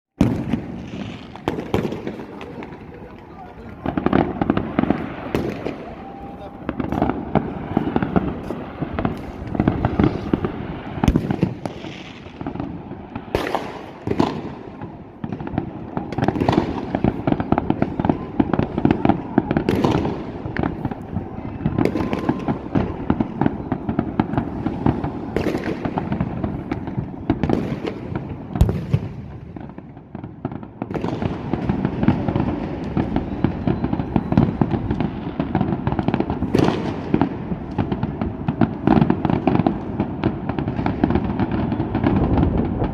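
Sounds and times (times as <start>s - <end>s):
distant fireworks crackling: 0.2s - 42.9s
loud firework bangs: 0.2s - 42.9s.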